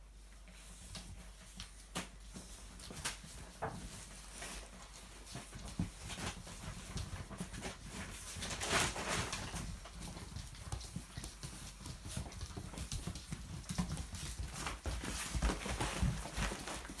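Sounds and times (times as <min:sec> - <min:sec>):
puppies scuffling: 0:00.0 - 0:17.0
puppy claws pattering on floor: 0:00.2 - 0:17.0.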